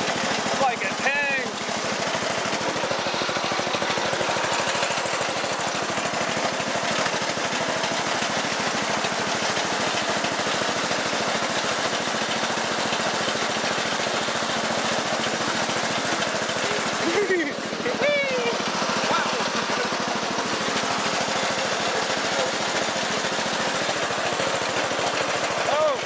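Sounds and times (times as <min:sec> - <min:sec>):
lawn tractor engine running: 0:00.0 - 0:26.0.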